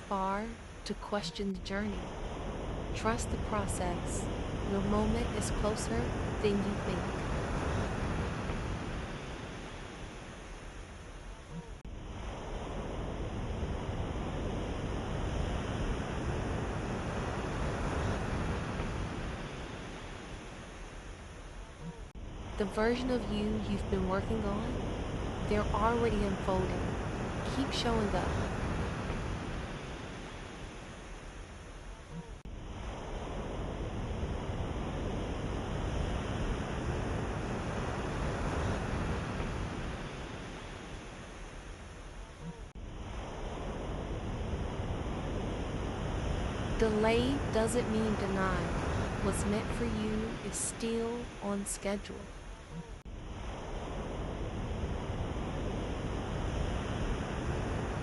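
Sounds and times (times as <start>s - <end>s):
ocean waves washing on shore: 0.0s - 58.0s.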